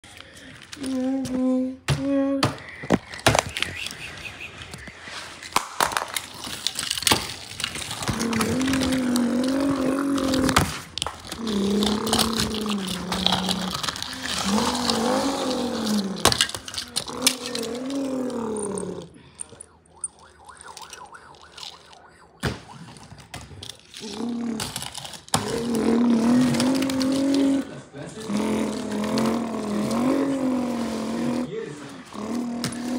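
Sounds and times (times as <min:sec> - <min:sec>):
toy cars clattering on cardboard: 0:02.5 - 0:19.6, 0:23.1 - 0:32.9.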